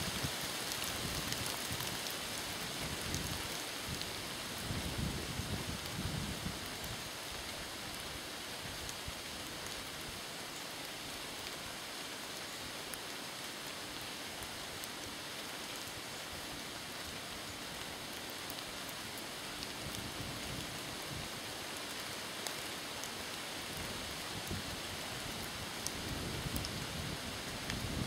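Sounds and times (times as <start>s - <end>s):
light rain on leaves: 0.0s - 28.0s.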